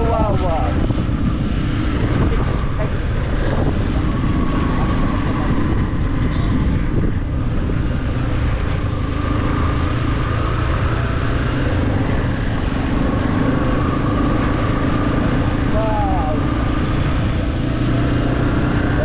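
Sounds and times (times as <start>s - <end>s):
motorcycle engine rumble: 0.0s - 19.0s.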